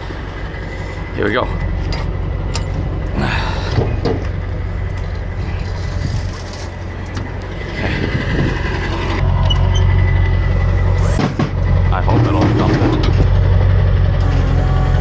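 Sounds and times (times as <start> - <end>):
hydraulic lift running: 0.0 - 15.0
truck engine humming: 0.0 - 15.0.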